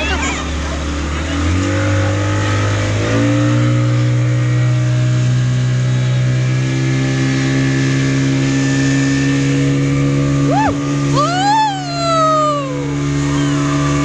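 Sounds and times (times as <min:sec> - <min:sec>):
speedboat engine revving: 0:00.0 - 0:14.0
water rushing along hull: 0:00.0 - 0:14.0.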